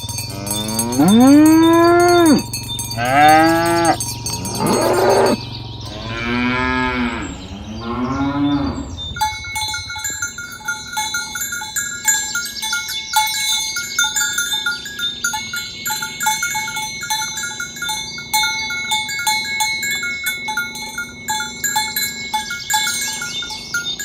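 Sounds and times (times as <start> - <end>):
cattle bells clinking: 0.0 - 24.0.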